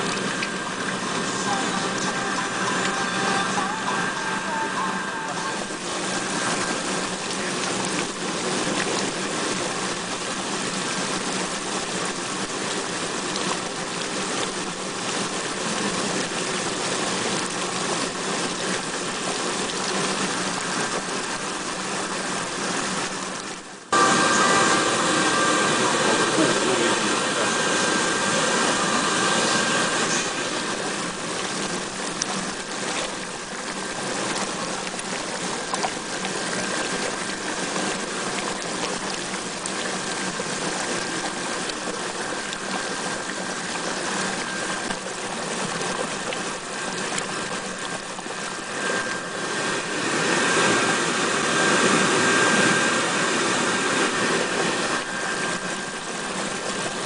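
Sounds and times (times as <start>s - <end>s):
faint steady hum: 0.0s - 57.0s
water bubbling while heating: 0.0s - 57.0s.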